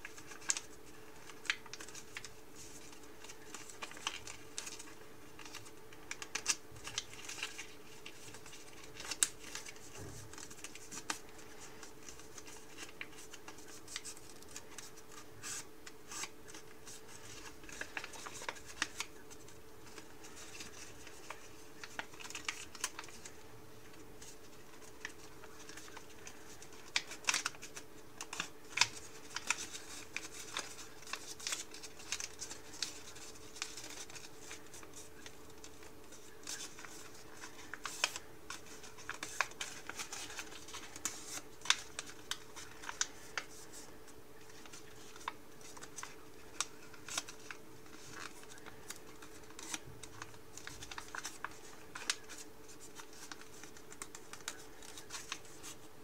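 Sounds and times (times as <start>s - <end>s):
faint steady hum: 0.0s - 56.0s
paper crinkling and rustling: 0.0s - 56.0s.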